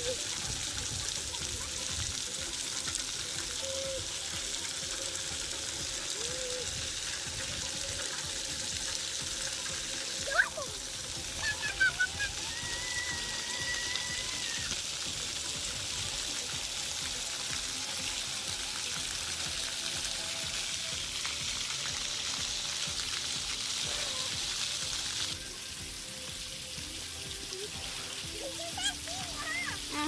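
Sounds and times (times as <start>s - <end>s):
water jets spraying: 0.0s - 30.0s.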